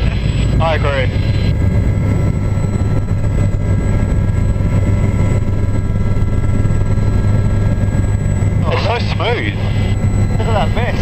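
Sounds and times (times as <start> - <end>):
helicopter drone in cabin: 0.0 - 11.0.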